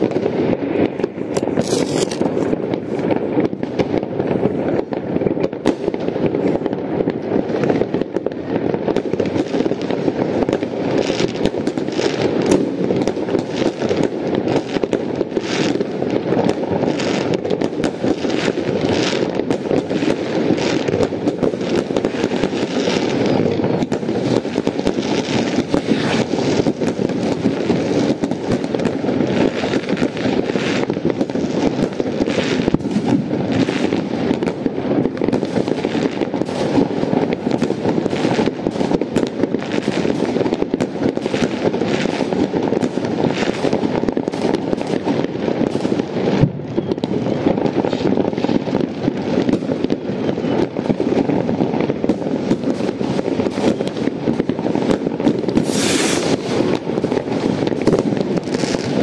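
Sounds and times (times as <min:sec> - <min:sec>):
firecrackers banging: 0:00.0 - 0:59.0
rockets bursting: 0:00.0 - 0:59.0.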